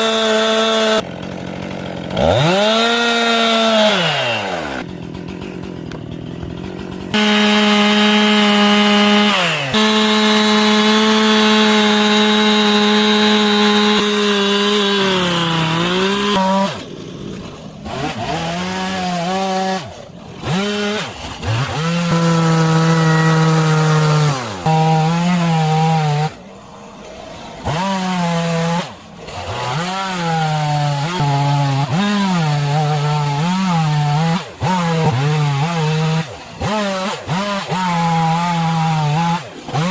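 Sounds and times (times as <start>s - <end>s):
chainsaw cutting and revving: 0.0s - 39.9s.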